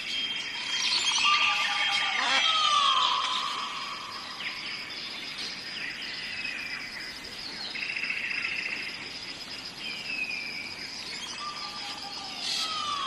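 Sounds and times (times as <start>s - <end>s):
birds calling: 0.0s - 13.0s
high insect drone: 0.0s - 13.0s.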